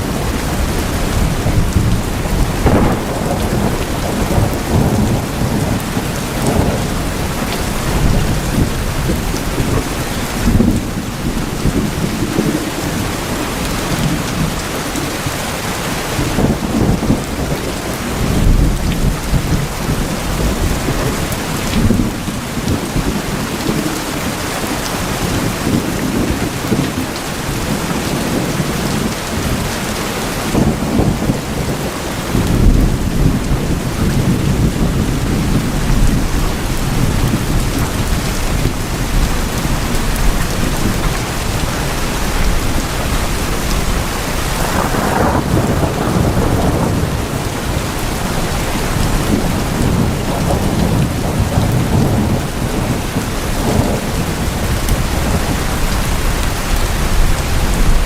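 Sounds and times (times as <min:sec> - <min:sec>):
heavy rain on metal roofs: 0:00.0 - 0:58.0
thunder rumbling: 0:00.0 - 0:58.0.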